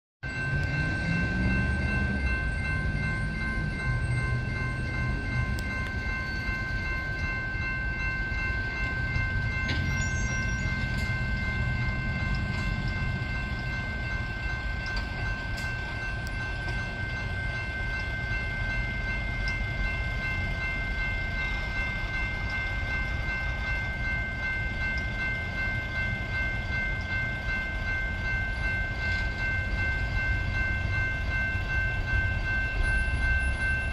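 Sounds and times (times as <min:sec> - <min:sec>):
crossing warning bells ringing: 0:00.2 - 0:33.9.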